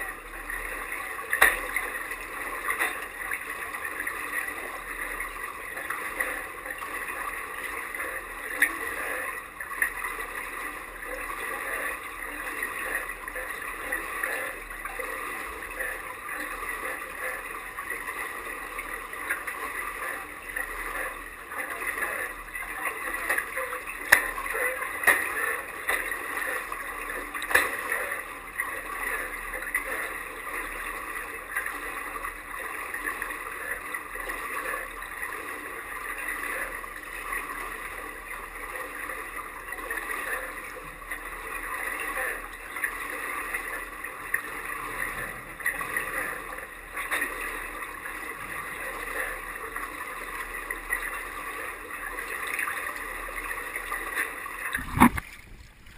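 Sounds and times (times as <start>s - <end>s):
water splashes: 0.0s - 55.9s.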